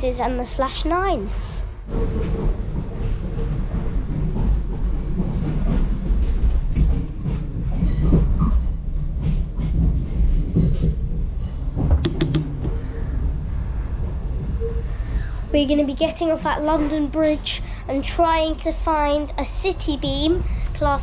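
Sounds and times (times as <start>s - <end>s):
train wheels clattering: 0.0s - 17.6s
train wheels rumbling on rail: 0.0s - 21.0s.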